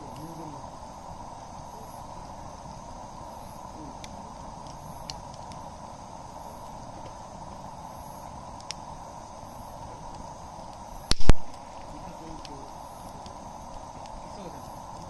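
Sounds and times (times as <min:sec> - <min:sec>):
campfire burning with hiss: 0:00.0 - 0:15.0
wood crackling and popping: 0:00.0 - 0:15.0.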